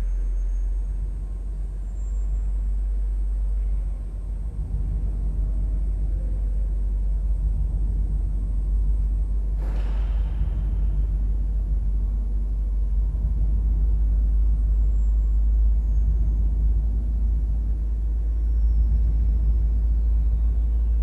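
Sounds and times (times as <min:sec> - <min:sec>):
deep electronic rumble: 0:00.0 - 0:21.0.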